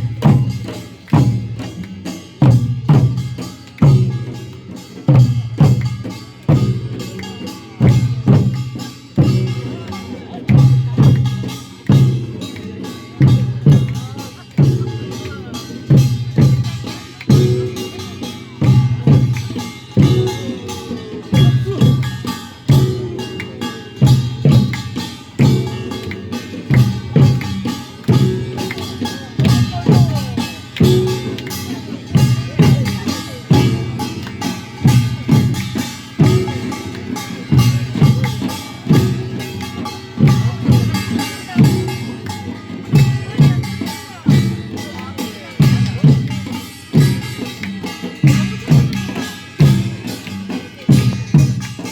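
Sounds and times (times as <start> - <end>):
folk percussion music: 0.0 - 51.9.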